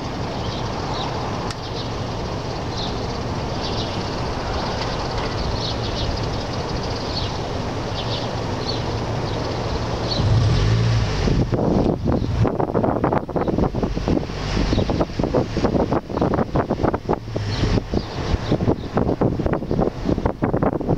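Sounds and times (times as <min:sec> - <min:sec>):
loud outdoor background noise: 0:00.0 - 0:20.9.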